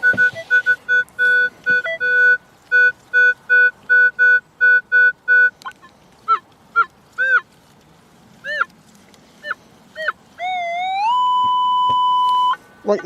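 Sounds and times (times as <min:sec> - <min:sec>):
metal detector chirps: 0:00.0 - 0:07.4, 0:09.4 - 0:13.0.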